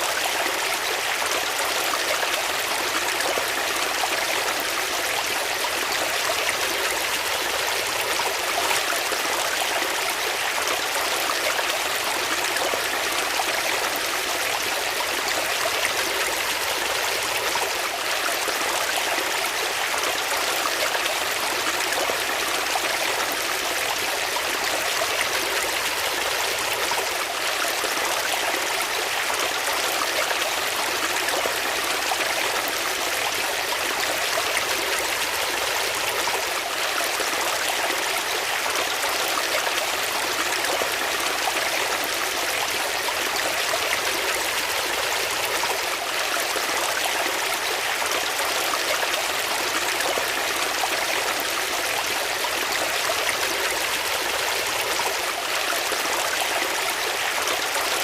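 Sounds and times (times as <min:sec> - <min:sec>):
stream water rushing and babbling: 0:00.0 - 0:58.0.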